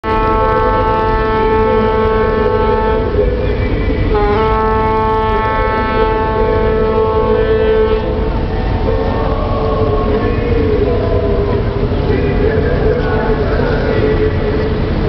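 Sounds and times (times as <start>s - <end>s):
ship's horn blast: 0.0s - 15.0s
low rumble: 0.1s - 15.0s.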